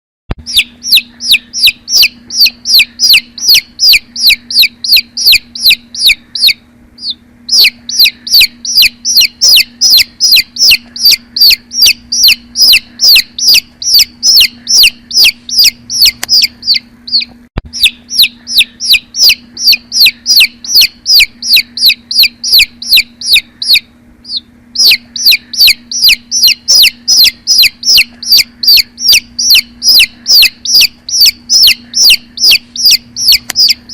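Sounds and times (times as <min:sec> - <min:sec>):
chick peeping: 0:00.4 - 0:33.9.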